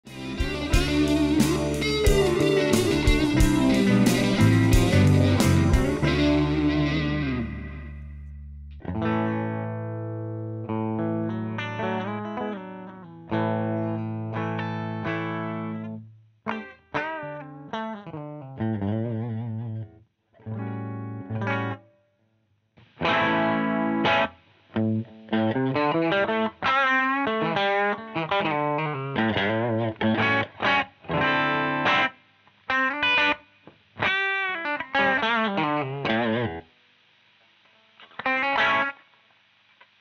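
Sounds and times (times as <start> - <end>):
distorted electric guitar riff: 0.0 - 19.8, 20.4 - 21.9, 22.8 - 36.7, 37.7 - 39.0.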